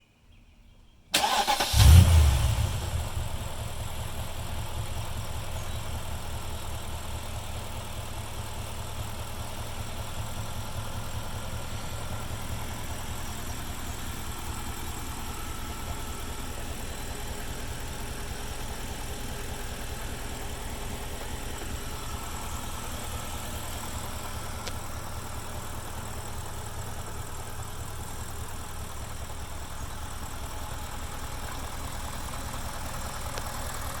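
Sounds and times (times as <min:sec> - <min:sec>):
car engine idling: 0:01.1 - 0:34.0.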